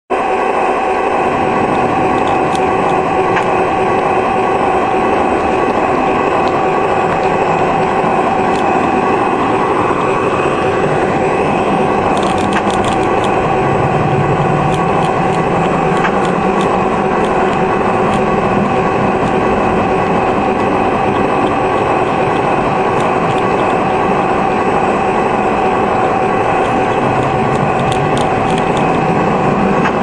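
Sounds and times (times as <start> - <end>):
model train motor hum: 0.2 - 30.0
wheels rolling on track: 1.1 - 30.0
wheels clicking over rail joints: 1.4 - 10.1, 11.7 - 30.0.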